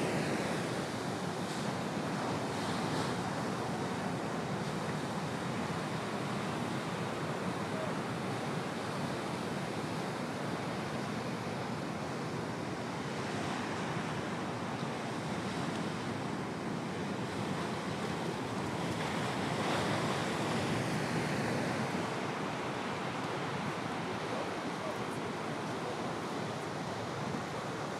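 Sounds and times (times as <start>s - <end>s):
ocean waves breaking: 0.0s - 27.9s.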